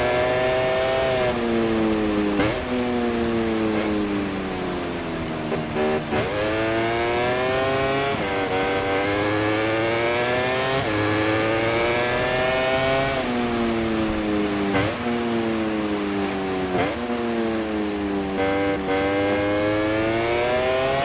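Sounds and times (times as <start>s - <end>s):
racing motorcycle engine accelerating: 0.0s - 21.0s.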